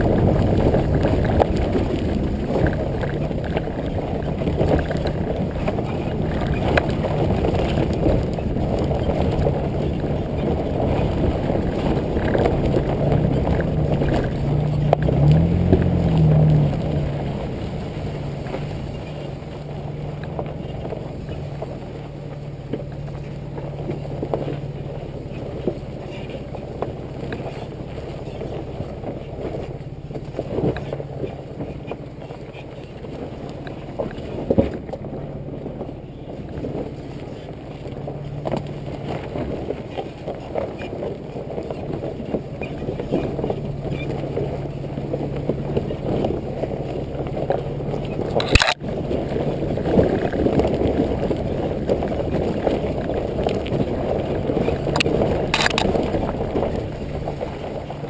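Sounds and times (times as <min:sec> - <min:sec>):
knocks and bumps on rough track: 0:00.0 - 0:58.0
truck engine droning: 0:00.0 - 0:58.0.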